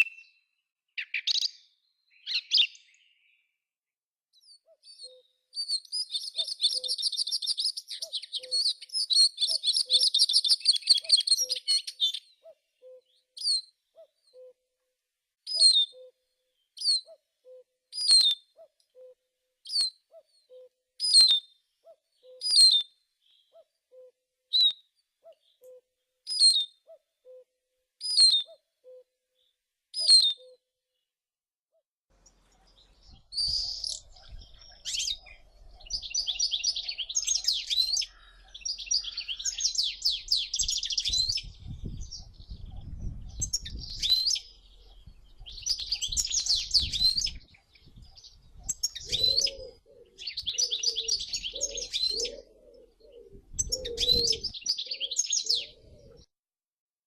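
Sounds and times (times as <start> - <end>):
songbird twittering song: 0.0 - 3.6, 4.4 - 14.6, 15.4 - 31.1, 32.2 - 56.3.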